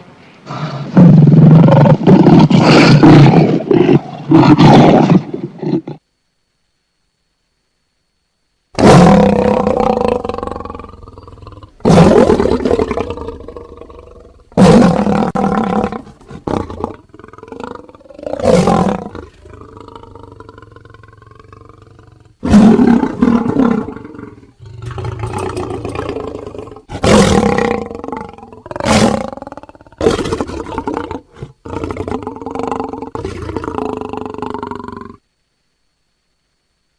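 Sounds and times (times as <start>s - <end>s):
lion roaring: 0.4s - 6.0s, 8.8s - 35.2s.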